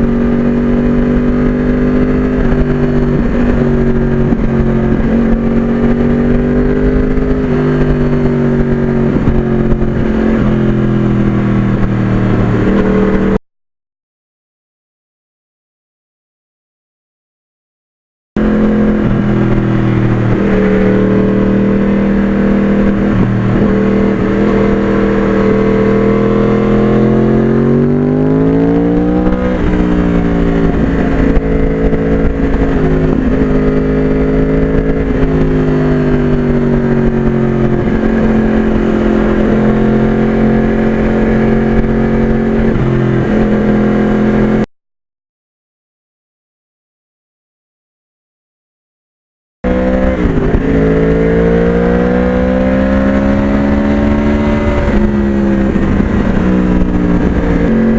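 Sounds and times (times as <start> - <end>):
motorcycle engine cruising: 0.0 - 13.4, 18.4 - 44.7, 49.6 - 57.9.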